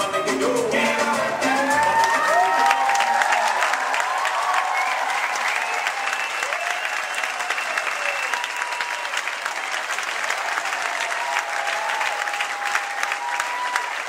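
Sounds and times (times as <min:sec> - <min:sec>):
audience applauding: 0:01.4 - 0:14.0.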